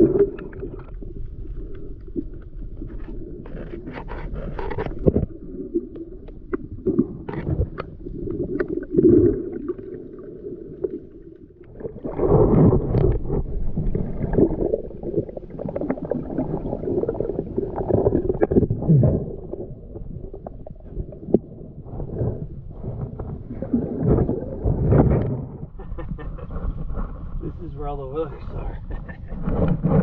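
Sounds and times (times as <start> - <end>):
muffled water sloshing: 0.0 - 30.0.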